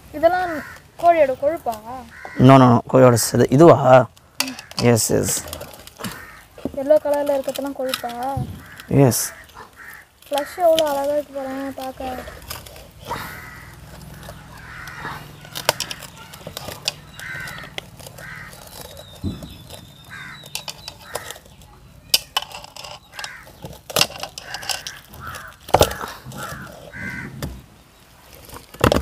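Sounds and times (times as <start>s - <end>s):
crows cawing: 0.2s - 2.8s, 4.2s - 21.6s, 22.3s - 27.7s.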